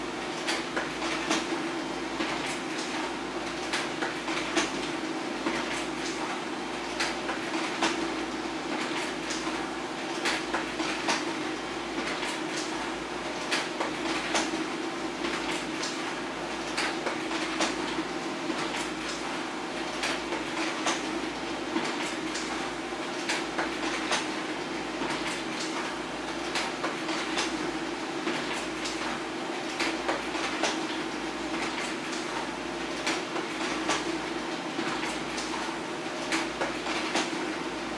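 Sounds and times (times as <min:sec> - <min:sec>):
printer clicks and clacks: 0:00.0 - 0:37.9.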